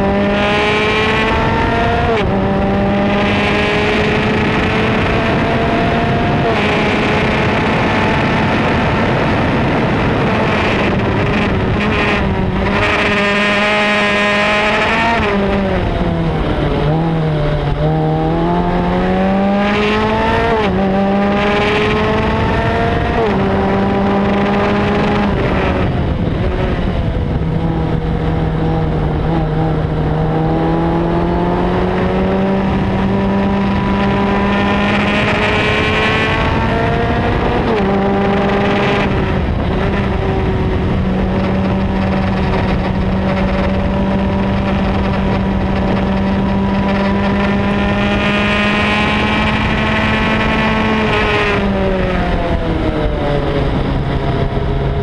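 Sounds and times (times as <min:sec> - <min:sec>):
race car engine under throttle: 0:00.0 - 0:55.0
wind rush: 0:00.0 - 0:55.0.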